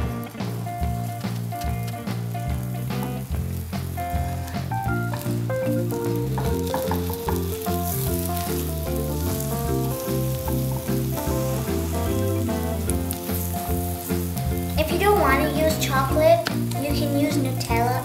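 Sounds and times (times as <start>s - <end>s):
background music: 0.0s - 18.0s
egg sizzling in a frying pan: 0.8s - 18.0s.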